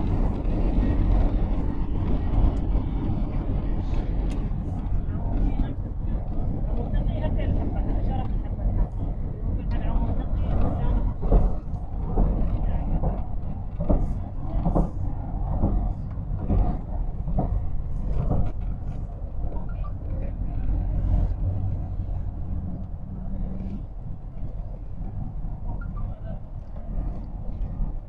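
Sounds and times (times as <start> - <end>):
car road noise rumble: 0.0 - 28.0.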